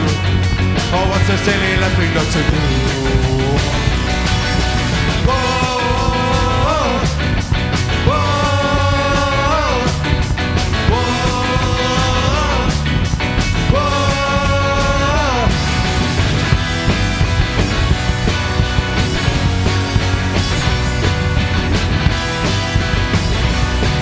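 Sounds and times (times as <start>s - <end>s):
punk ska band playing: 0.0s - 24.0s.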